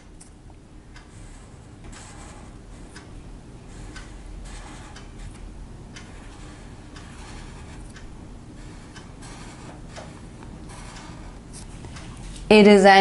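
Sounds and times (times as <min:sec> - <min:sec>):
low steady hum: 0:00.0 - 0:13.0
scratchy writing strokes: 0:01.0 - 0:12.4.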